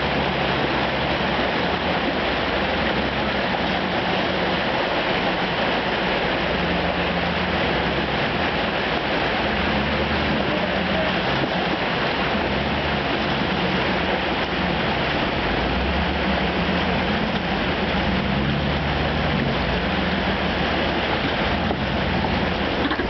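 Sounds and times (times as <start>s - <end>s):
creek water rushing over rocks: 0.0s - 23.0s
pickup truck engine running low: 0.0s - 23.0s.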